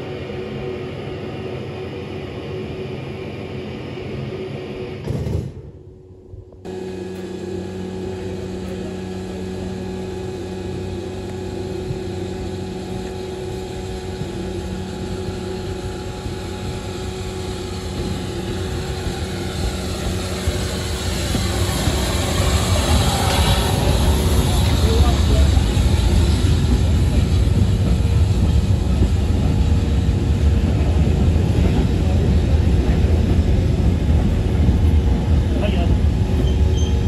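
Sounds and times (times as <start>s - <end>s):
rumble of moving vehicle: 0.0s - 37.0s
station ambience hum: 0.0s - 37.0s.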